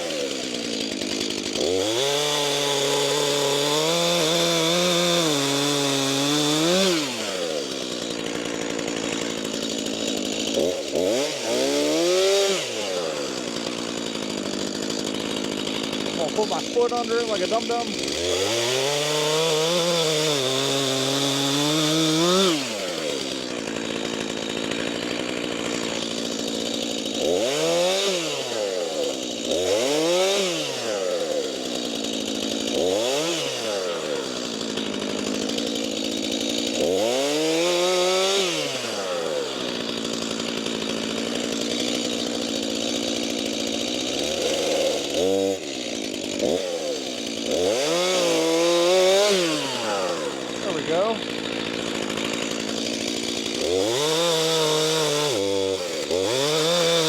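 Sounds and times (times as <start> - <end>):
chainsaw cutting logs: 0.0 - 57.0
chainsaw idling: 0.0 - 57.0.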